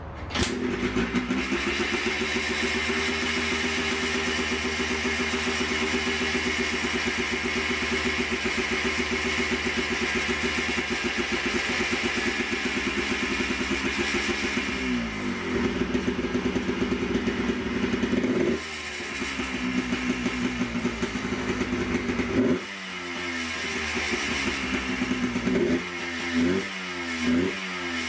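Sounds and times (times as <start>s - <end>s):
two-stroke engine idling: 0.5s - 28.0s.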